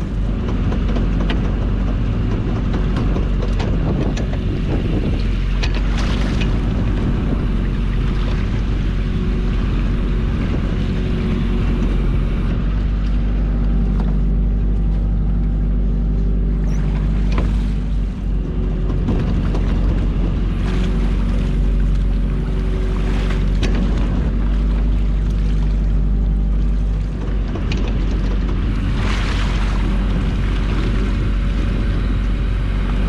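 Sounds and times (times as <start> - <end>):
knocks and clunks: 0.0 - 9.4, 10.0 - 32.2
boat engine running: 0.0 - 33.0.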